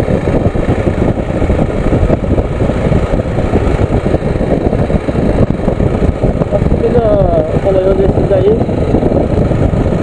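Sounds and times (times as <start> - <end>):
engine and road noise: 0.0 - 10.0
wind rumble on microphone: 0.0 - 10.0.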